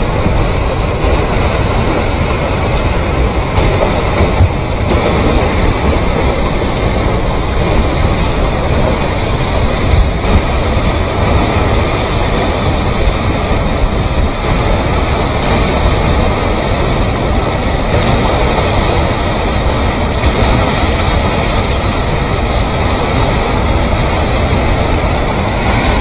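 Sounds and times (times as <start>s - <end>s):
churning mud slurry: 0.0s - 26.0s.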